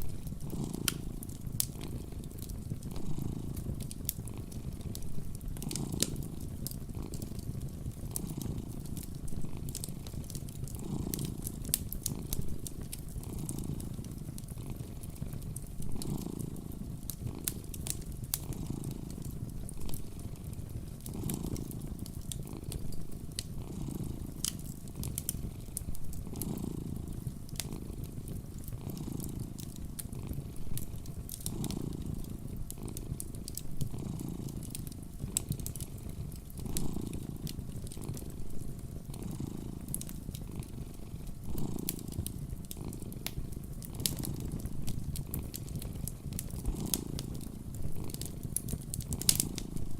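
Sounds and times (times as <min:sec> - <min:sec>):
cat purring: 0:00.0 - 0:49.9
wood fire crackling: 0:00.0 - 0:49.9.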